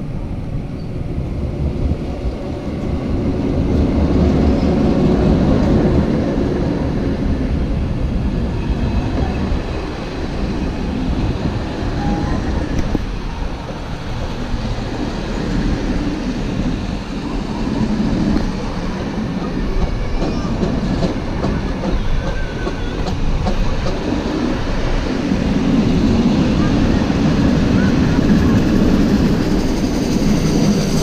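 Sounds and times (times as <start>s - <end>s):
train wheels rumbling and clattering: 0.0s - 31.0s.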